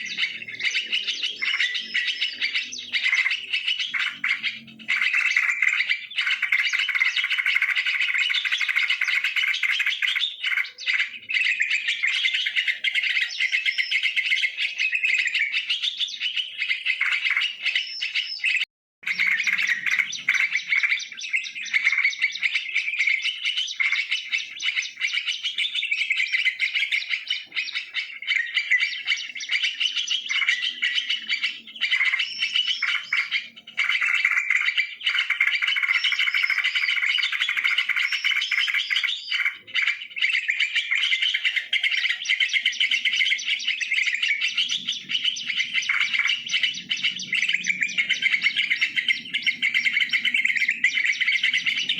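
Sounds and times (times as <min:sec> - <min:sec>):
birds chattering and chirping: 0:00.0 - 0:51.9.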